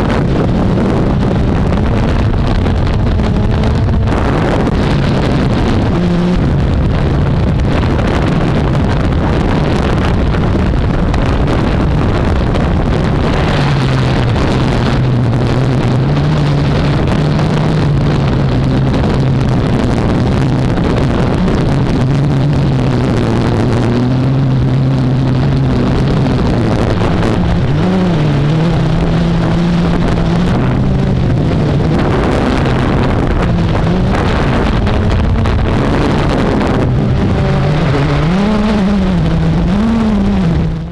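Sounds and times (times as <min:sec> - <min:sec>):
quadcopter propellers buzzing: 0:00.0 - 0:40.9
wind buffeting microphone: 0:00.0 - 0:40.9.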